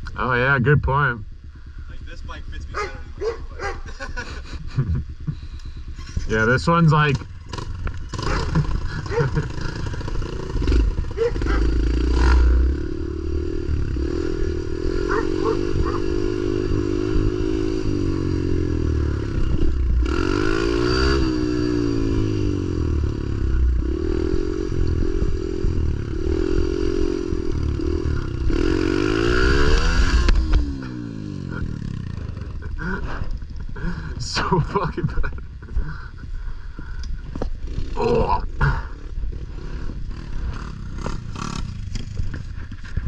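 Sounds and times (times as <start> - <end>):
pit bike engine revving: 0.0 - 43.0.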